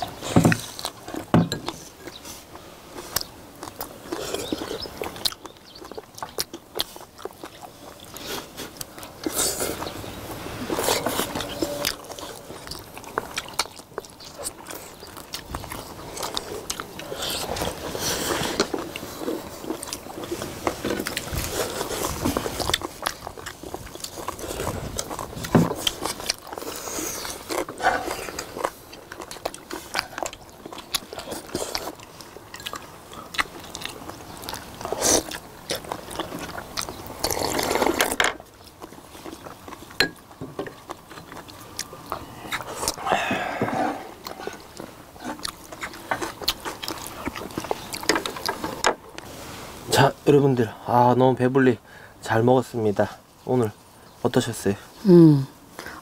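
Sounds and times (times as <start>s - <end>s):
people chewing: 0.0s - 56.0s.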